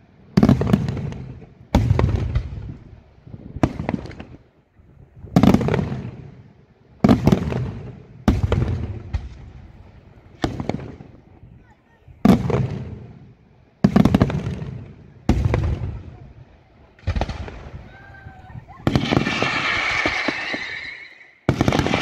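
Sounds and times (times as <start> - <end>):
fireworks bangs with rolling echo: 0.3 - 4.5, 5.2 - 11.4, 12.2 - 22.0.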